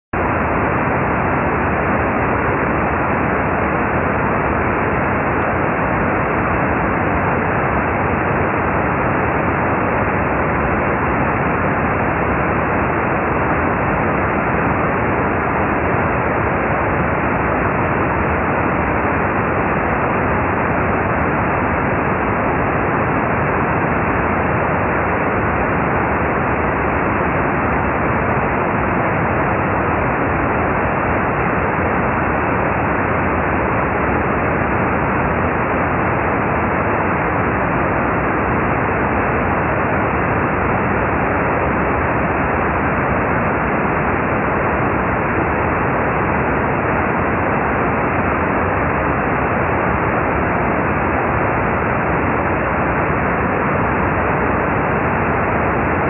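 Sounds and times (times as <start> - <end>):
brown noise hiss: 0.2 - 56.0.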